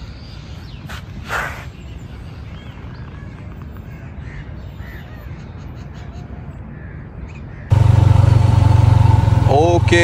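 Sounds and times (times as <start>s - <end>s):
birds calling: 0.0s - 10.0s
outdoor background noise: 0.0s - 10.0s.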